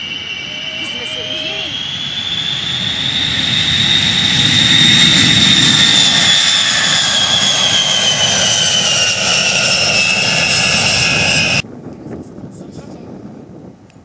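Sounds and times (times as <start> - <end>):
jet engine roar with falling whine: 0.0 - 11.7.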